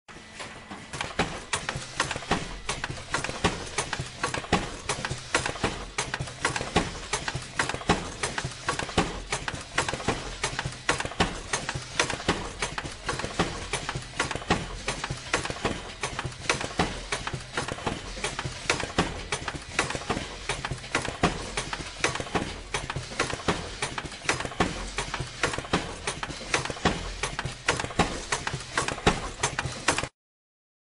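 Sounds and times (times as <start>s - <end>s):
machine clattering clicks: 0.2s - 30.1s.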